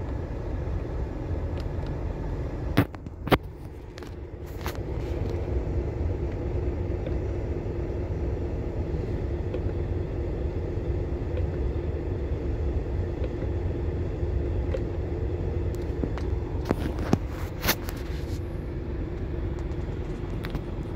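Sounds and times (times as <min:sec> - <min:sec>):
diesel engine running steadily: 0:00.0 - 0:20.9.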